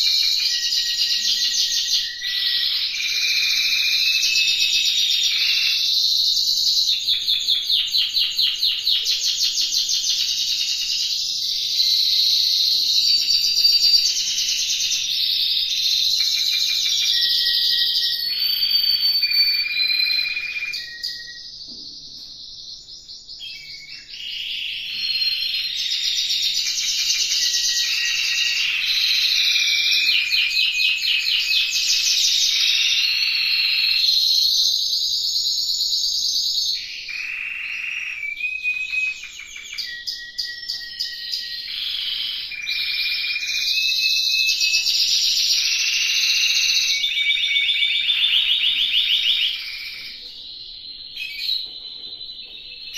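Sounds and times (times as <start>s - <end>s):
canaries singing: 0.0s - 52.9s.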